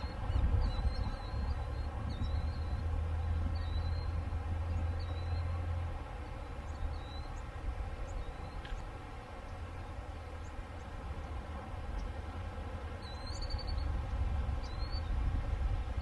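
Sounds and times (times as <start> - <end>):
small birds chirping: 0.0 - 11.0, 11.8 - 12.2, 12.9 - 15.3.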